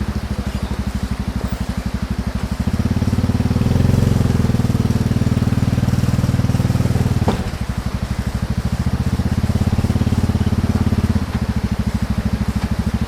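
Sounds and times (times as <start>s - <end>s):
atv engine pulsing drone: 0.0s - 13.0s.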